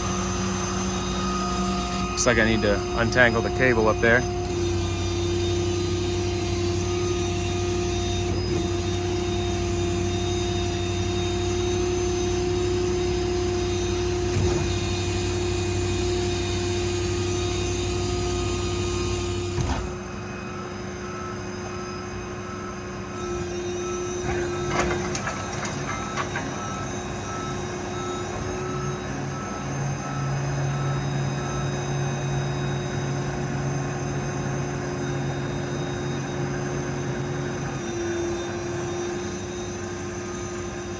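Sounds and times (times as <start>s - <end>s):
crane hydraulic pump whine: 0.0s - 40.9s
truck diesel engine running: 0.0s - 40.9s.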